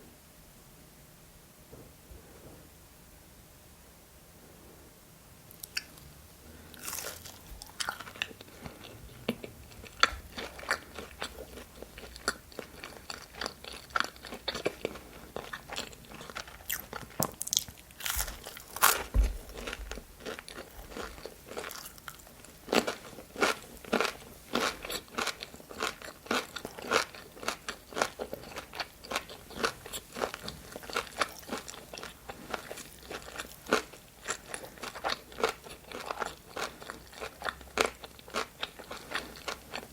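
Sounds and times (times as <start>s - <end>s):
crunchy chewing: 5.5s - 39.9s.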